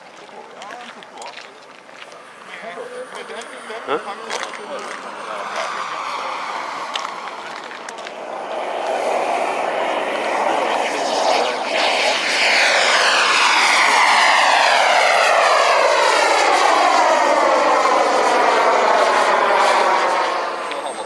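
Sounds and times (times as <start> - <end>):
model jet turbine flying past: 2.2 - 21.0.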